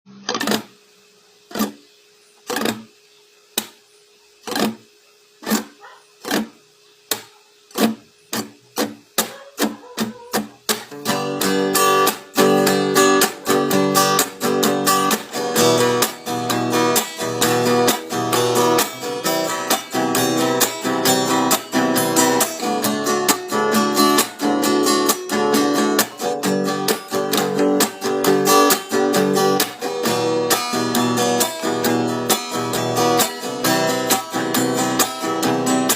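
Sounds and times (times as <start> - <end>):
acoustic guitar strummed chords: 0.1 - 0.8, 1.5 - 3.8, 4.4 - 35.9
muted guitar strokes: 1.5 - 3.0, 3.6 - 35.9.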